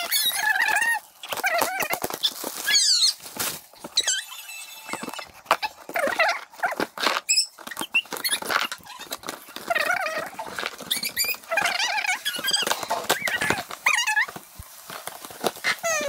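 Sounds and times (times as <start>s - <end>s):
packing tape ripping: 0.0s - 4.3s, 4.9s - 16.0s.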